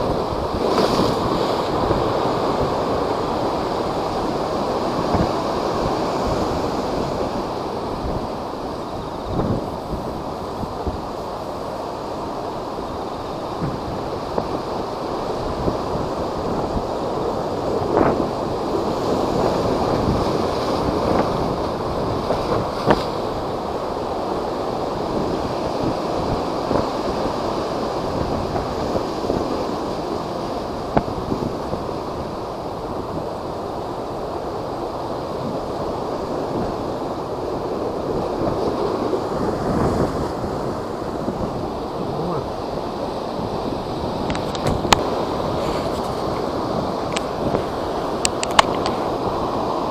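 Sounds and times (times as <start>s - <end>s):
storm surf breaking: 0.0s - 49.9s
wind buffeting microphone: 0.0s - 49.9s.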